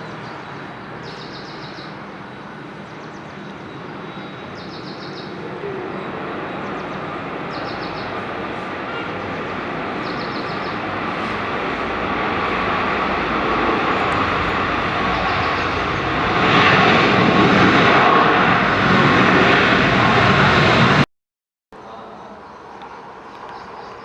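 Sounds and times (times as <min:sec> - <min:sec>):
jet engines roaring: 0:00.0 - 0:21.1.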